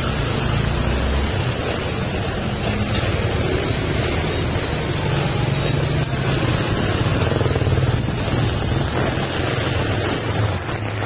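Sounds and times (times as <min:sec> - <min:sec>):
heavy rain pouring: 0:00.0 - 0:11.0
vehicle engines in slow traffic: 0:00.0 - 0:11.0.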